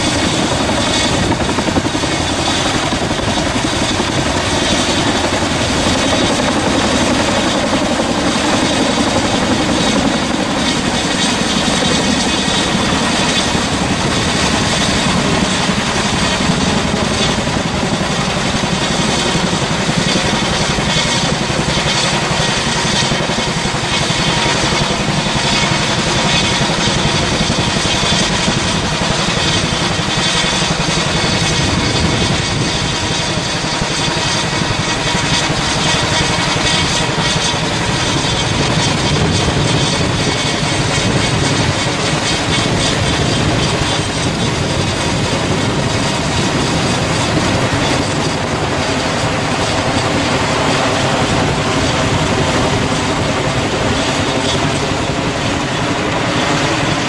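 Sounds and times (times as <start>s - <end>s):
helicopter rotors and engines: 0.0s - 57.0s.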